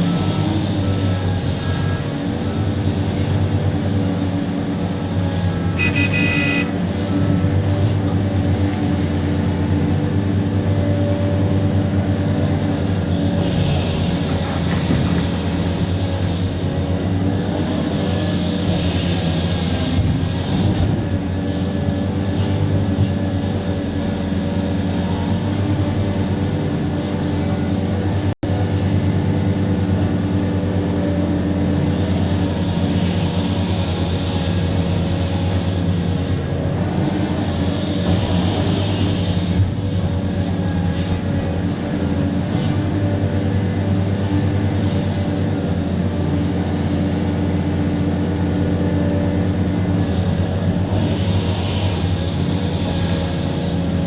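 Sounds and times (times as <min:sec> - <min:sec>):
excavator diesel engine humming: 0:00.0 - 0:54.0.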